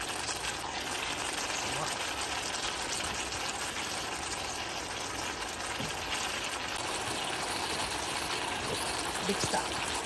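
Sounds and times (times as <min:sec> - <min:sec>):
food sizzling in a skillet: 0:00.0 - 0:10.0.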